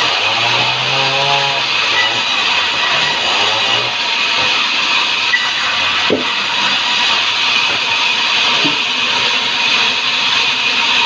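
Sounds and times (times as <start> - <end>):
band saw cutting log: 0.0 - 11.0.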